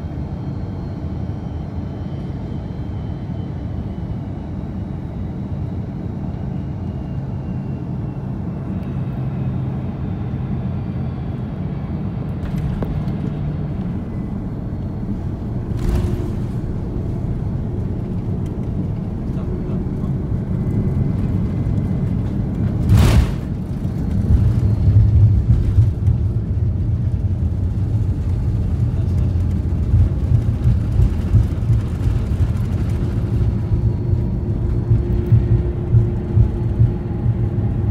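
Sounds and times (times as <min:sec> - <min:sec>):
airplane cabin rumble: 0:04.2 - 0:37.9.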